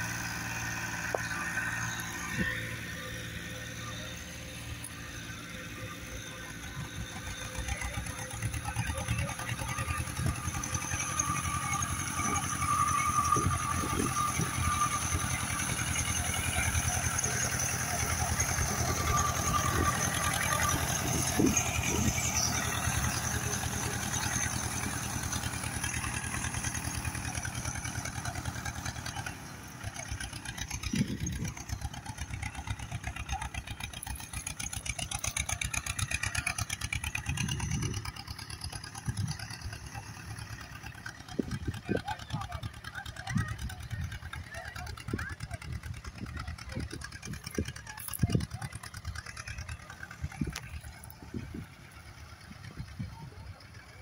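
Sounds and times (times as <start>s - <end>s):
small tractor engine running: 0.0s - 54.0s
people talking: 2.3s - 26.0s, 29.0s - 36.4s, 40.4s - 54.0s.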